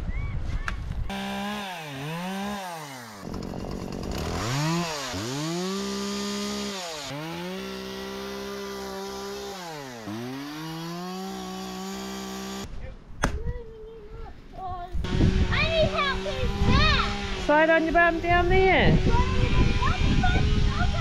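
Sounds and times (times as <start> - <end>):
chainsaw cutting branches: 1.1 - 12.7, 15.0 - 21.0.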